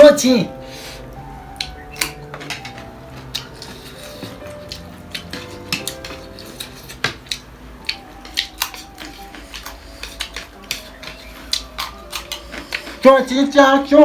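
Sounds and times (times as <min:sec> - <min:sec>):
cutlery clicking on plates: 0:01.6 - 0:13.1.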